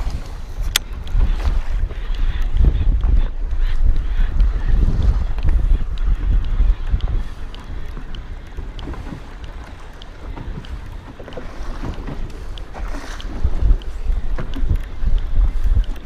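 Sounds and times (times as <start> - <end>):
waves slapping boat hull: 0.0 - 16.0
wind buffeting microphone: 0.0 - 16.0
faint regular ticks: 0.6 - 16.0.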